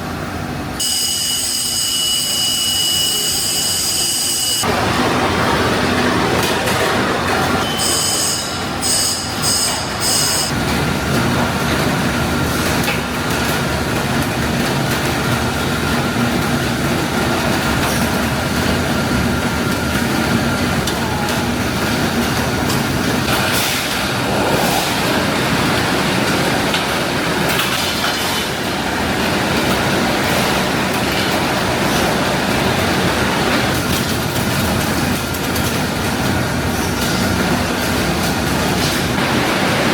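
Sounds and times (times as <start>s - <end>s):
factory machinery rumbling: 2.9s - 39.9s.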